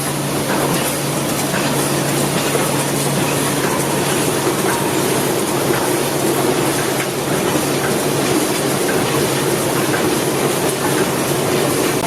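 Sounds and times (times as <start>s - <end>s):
industrial machine din: 0.0s - 12.0s.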